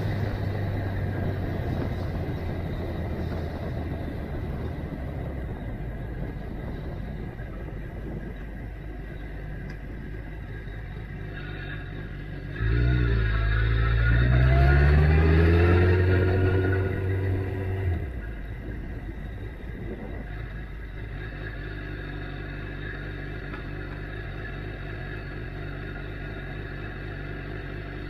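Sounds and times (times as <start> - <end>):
motorcycle engine hum: 0.0 - 28.0
wind and road noise: 0.0 - 28.0.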